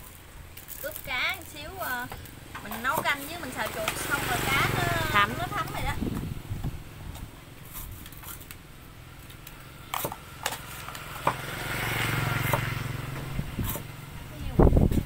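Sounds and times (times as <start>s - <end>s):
small engine humming: 0.7s - 15.0s.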